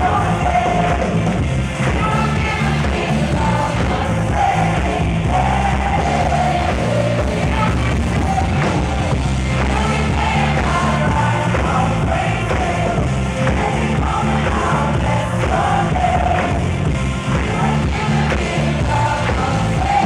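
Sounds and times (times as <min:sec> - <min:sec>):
lead singer singing: 0:00.0 - 0:20.0
worship rock band playing: 0:00.0 - 0:20.0.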